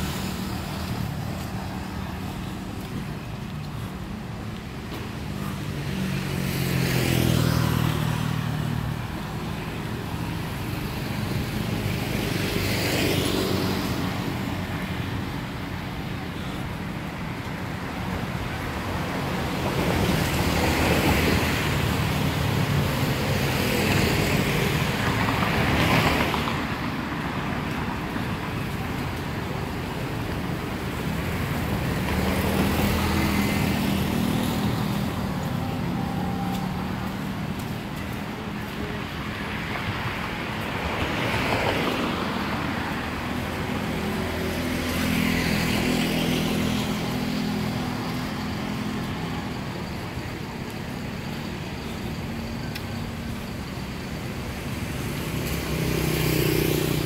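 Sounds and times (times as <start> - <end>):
road traffic hum: 0.0 - 57.0
vehicles passing: 0.0 - 57.0.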